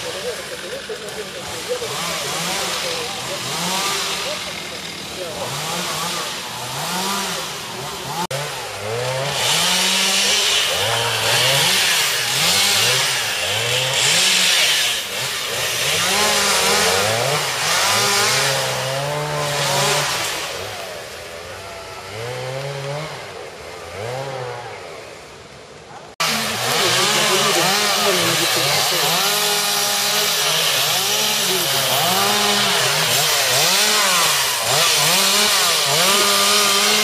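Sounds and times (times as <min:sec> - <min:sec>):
chainsaw cutting hiss: 0:00.0 - 0:24.5, 0:26.2 - 0:37.0
chainsaw revving: 0:00.0 - 0:25.4, 0:26.1 - 0:37.0.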